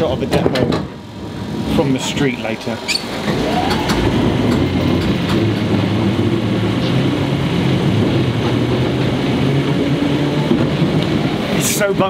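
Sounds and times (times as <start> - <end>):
train motors humming: 0.0 - 12.0.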